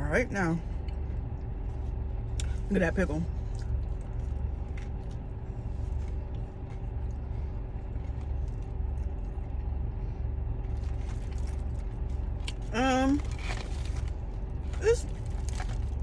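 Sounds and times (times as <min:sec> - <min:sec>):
faint steady hum: 0:00.0 - 0:16.0
low rumble inside car cabin: 0:00.0 - 0:16.0.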